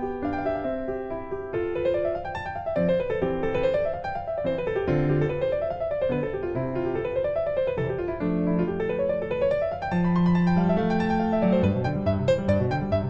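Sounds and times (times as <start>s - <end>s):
piano arpeggios: 0.0s - 13.0s.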